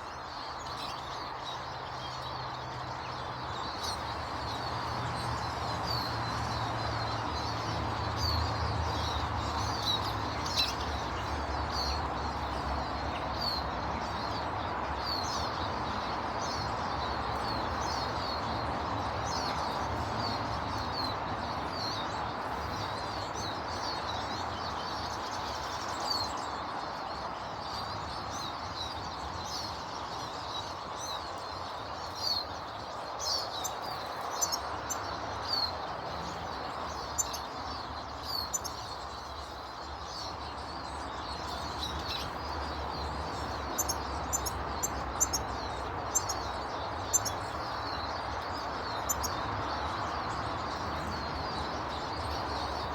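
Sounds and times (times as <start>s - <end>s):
small birds chirping: 0.0s - 52.9s
steady background noise: 0.0s - 52.9s.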